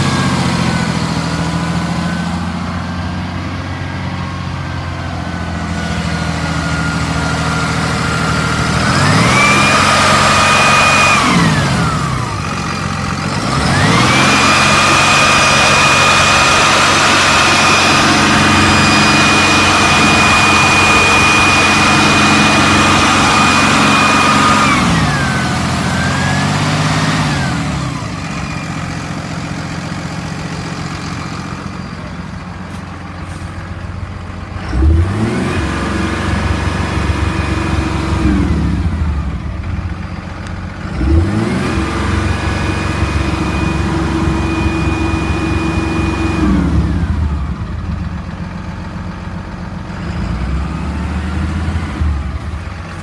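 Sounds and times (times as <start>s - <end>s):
diesel truck engine revving: 0.0s - 53.0s
high engine whine: 0.0s - 53.0s.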